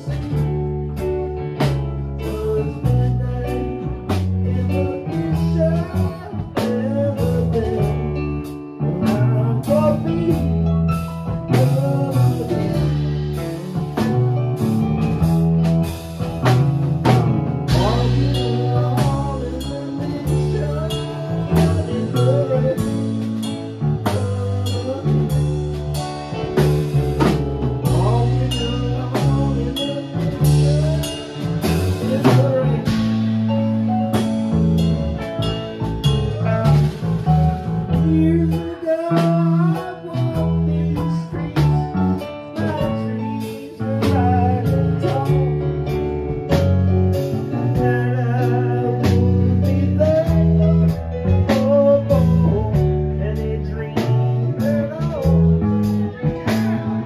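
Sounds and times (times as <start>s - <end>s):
drum kit beat: 0.0s - 57.0s
electric guitars: 0.0s - 57.0s
keyboard: 0.0s - 57.0s
lead guitar line: 0.0s - 57.0s.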